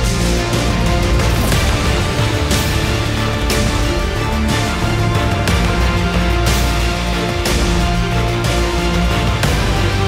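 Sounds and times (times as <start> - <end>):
driving soundtrack music: 0.0 - 10.0.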